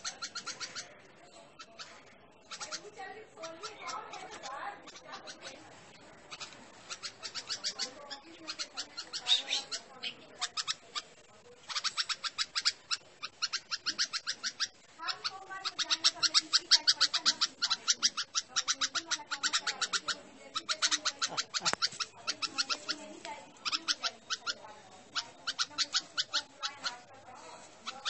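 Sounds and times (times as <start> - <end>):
bird alarm chatter: 0.0 - 28.0.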